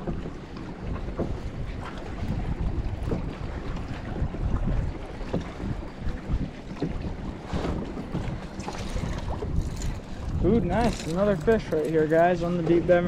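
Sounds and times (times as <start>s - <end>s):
waves lapping against boat hull: 0.0s - 13.0s
wind buffeting microphone: 0.0s - 13.0s.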